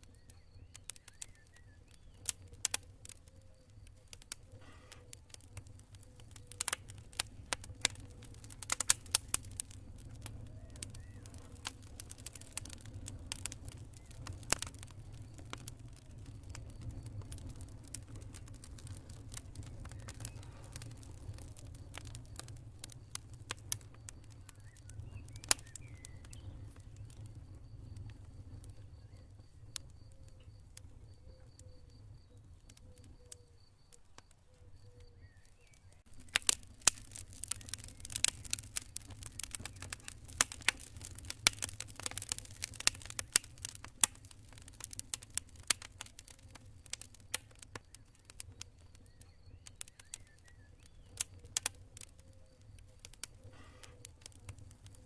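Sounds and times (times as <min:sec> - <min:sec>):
campfire crackling and popping: 0:00.0 - 0:55.0
low rumble of flames: 0:00.0 - 0:55.0
cricket chirping: 0:09.4 - 0:55.0.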